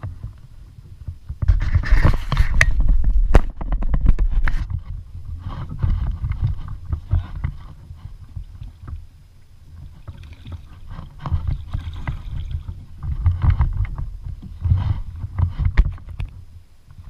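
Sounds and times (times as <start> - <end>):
water sloshing against hull: 0.0 - 17.0
wind rumble on microphone: 0.0 - 17.0.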